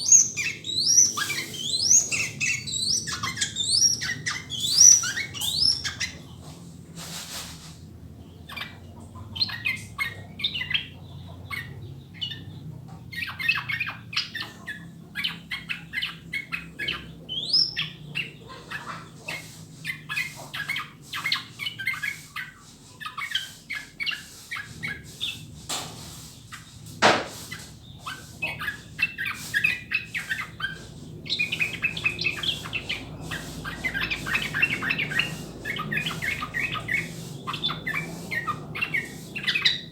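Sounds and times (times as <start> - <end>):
bird singing chattering notes: 0.0 - 6.5, 8.2 - 39.9.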